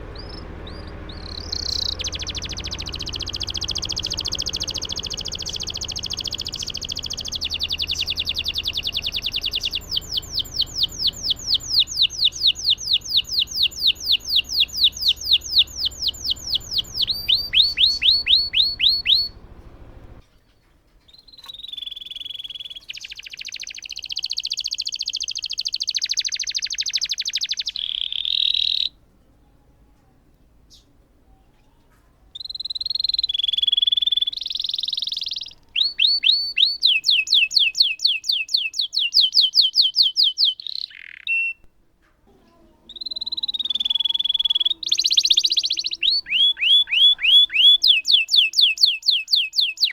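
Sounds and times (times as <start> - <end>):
canary singing trills: 0.0 - 29.0, 30.6 - 41.7, 42.8 - 49.9.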